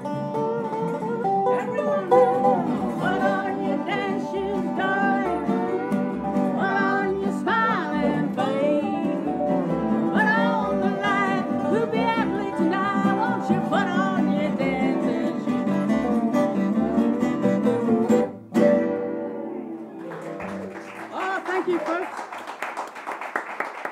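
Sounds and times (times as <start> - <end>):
upright bass line: 0.0 - 19.7
slide resonator guitar: 0.0 - 20.8
strummed acoustic guitars: 0.0 - 21.4.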